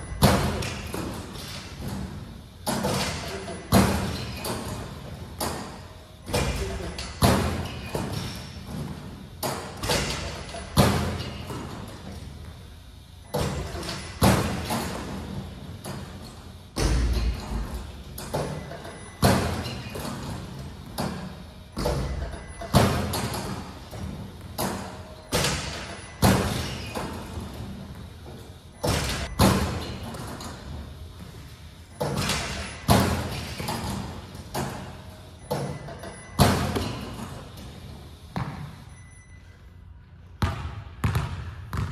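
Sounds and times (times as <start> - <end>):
basketballs striking rim and floor: 0.0 - 12.5, 13.2 - 39.0, 40.4 - 41.9.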